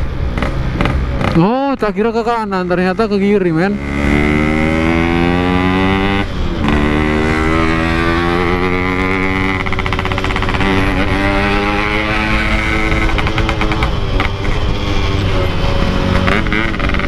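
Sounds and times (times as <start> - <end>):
motorcycle engine revving: 0.0 - 1.9, 3.4 - 17.0.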